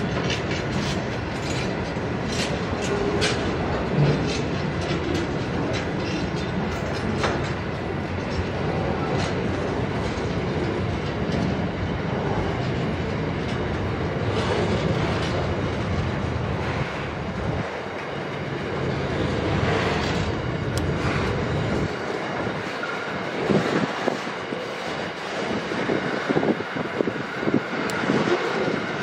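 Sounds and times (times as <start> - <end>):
freight train rumbling past: 0.0 - 29.0
wheels clacking over rail joints: 0.0 - 29.0.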